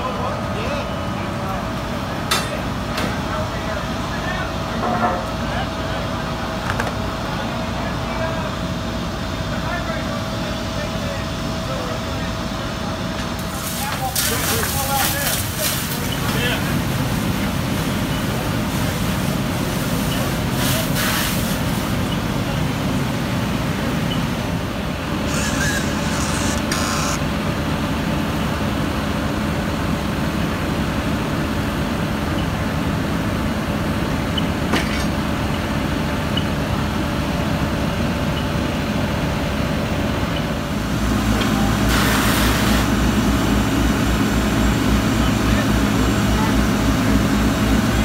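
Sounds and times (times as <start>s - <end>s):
fire truck engines running: 0.0s - 48.0s.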